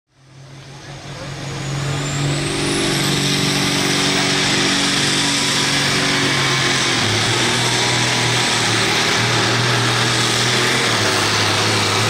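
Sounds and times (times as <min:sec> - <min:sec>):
diesel tractor engine running hard: 0:00.1 - 0:12.0
turbocharger whistle: 0:00.8 - 0:12.0.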